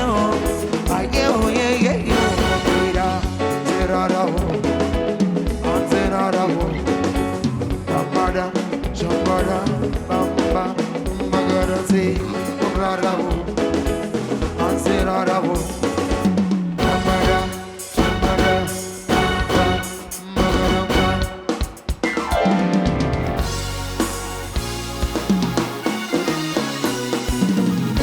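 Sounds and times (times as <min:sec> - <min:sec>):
drums steady beat: 0:00.0 - 0:28.0
live band playing upbeat song: 0:00.0 - 0:28.0.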